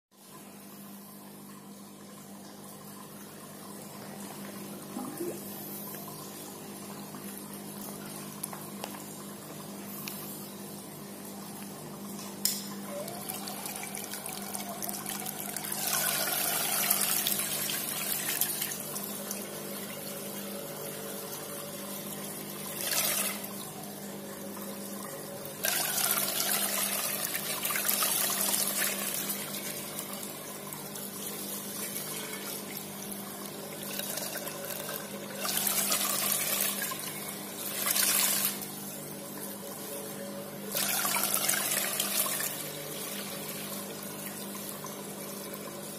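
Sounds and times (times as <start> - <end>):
pump motor hum: 0.2 - 45.9.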